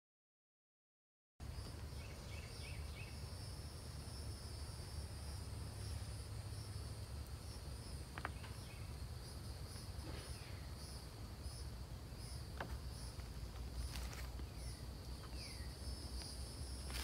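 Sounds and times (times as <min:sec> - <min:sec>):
crickets chirping: 0:01.4 - 0:17.0.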